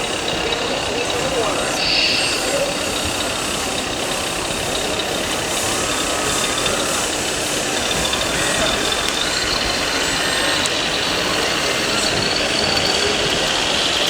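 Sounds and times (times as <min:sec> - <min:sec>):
chatter of exhibition hall crowd: 0:00.0 - 0:14.0
electronic engine sound modules: 0:00.0 - 0:14.0.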